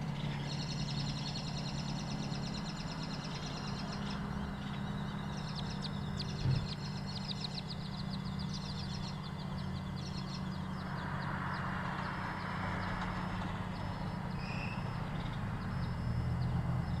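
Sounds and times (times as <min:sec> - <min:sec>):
birds chirping: 0:00.0 - 0:17.0
low hum of traffic: 0:00.0 - 0:17.0
vehicle rushing past: 0:00.0 - 0:17.0.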